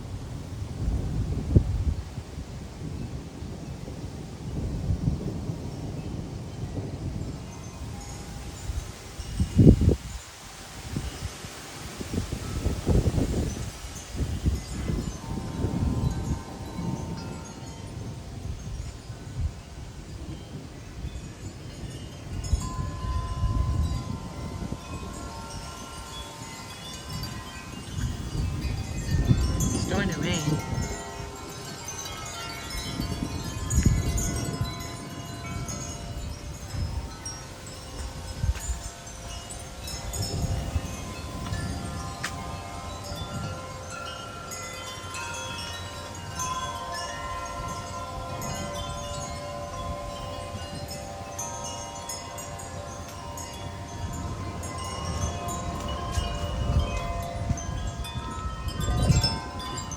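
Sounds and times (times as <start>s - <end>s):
low wind rumble: 0.0s - 59.9s
wind chimes ringing: 2.9s - 59.9s.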